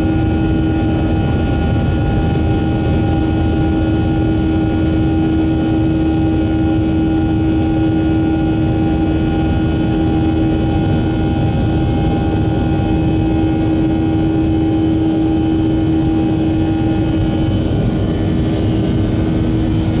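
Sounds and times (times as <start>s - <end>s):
jet engines droning in cabin: 0.0s - 20.0s.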